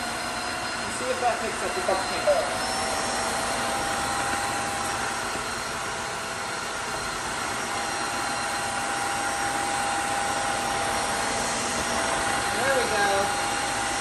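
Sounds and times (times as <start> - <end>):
vacuum mop motor whine: 0.0 - 14.0.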